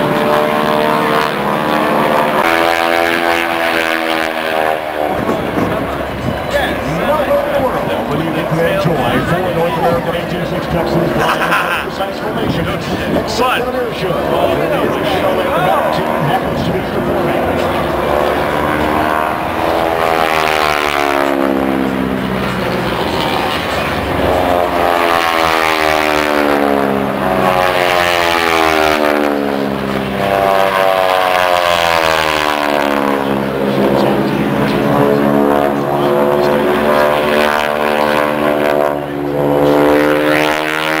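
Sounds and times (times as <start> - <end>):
propeller planes throbbing drone: 0.0 - 41.0.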